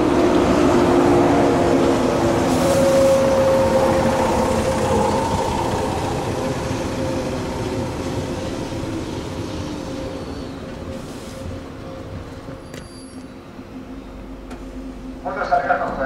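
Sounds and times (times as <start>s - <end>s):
electric train hum: 0.0s - 16.0s
rail noise: 0.0s - 16.0s.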